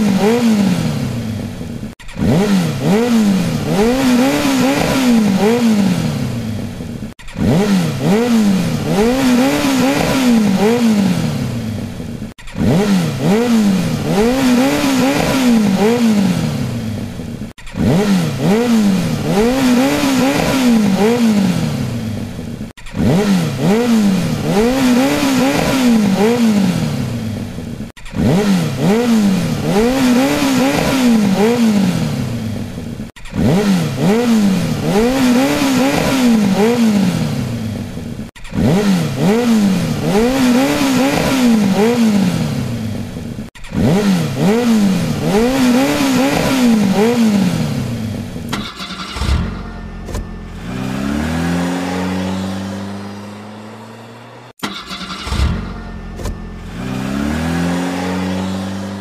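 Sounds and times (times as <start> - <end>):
engine pulling away: 0.0 - 59.0
vehicle engine revving: 0.0 - 59.0.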